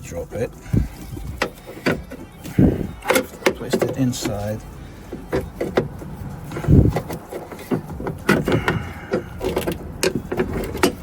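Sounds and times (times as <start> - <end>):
irregular clicks and knocks: 0.3 - 11.0.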